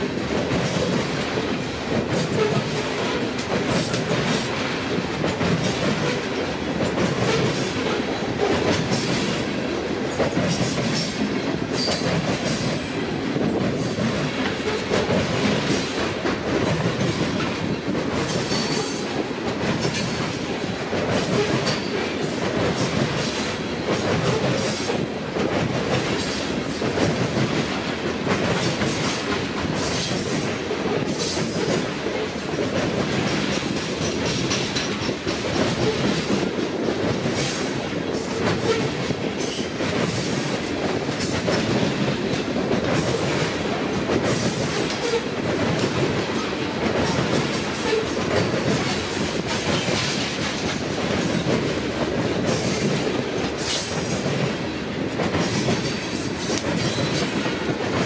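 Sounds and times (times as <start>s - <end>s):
train rumble: 0.0s - 58.0s
train wheels clicking over rail joints: 0.0s - 58.0s.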